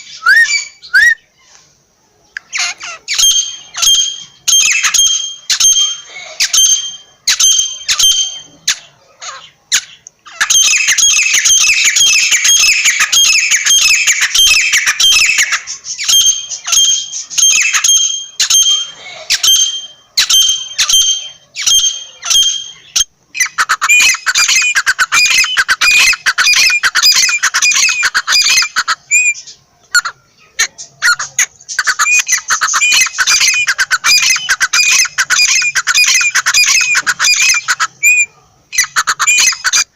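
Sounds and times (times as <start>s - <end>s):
partridge calling: 2.4s - 39.9s.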